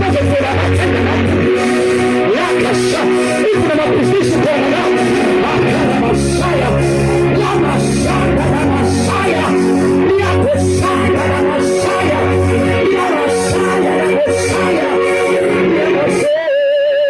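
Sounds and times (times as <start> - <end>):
steady bass: 0.0 - 16.5
loud guitar music: 0.0 - 17.0.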